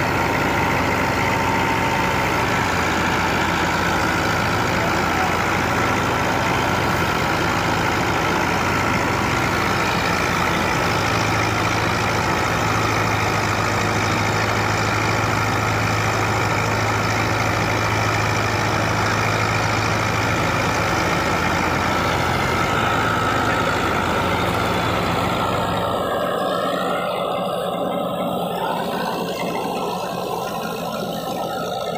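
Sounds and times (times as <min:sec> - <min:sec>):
thresher machinery whirring: 0:00.0 - 0:31.9
tractor diesel engine running: 0:00.0 - 0:31.9.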